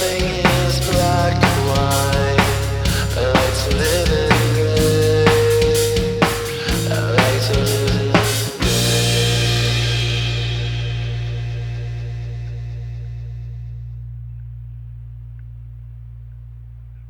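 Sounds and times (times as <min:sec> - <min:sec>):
punk rock drums and bass: 0:00.0 - 0:13.8.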